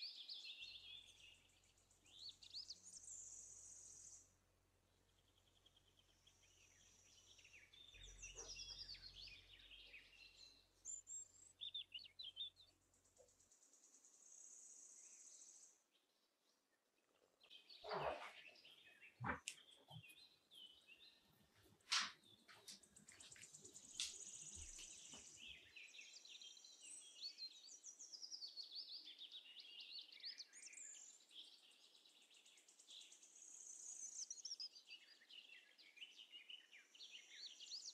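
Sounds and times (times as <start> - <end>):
faint birds chirping: 0.0 - 37.9.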